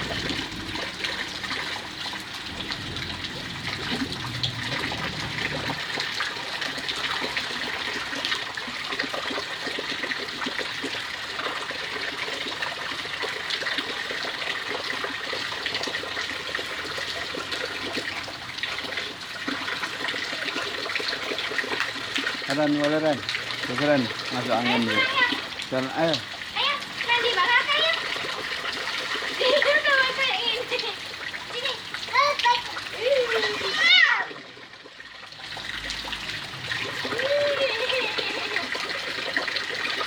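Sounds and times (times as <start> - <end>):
rainwater running and splashing: 0.0 - 40.0.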